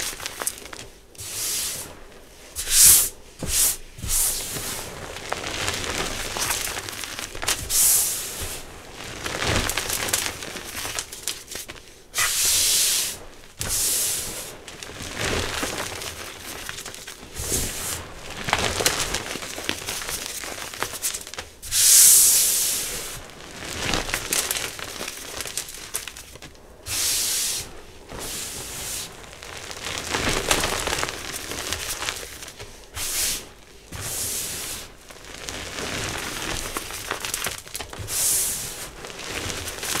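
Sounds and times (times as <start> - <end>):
hands crunching powdered chalk: 2.6 - 27.6, 28.2 - 40.0.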